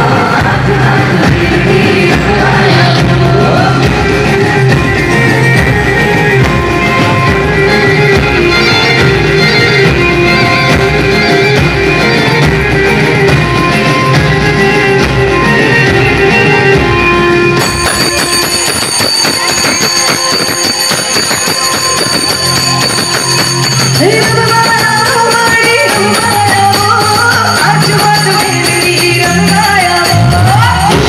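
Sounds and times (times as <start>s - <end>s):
live band music with drums: 0.0s - 31.0s.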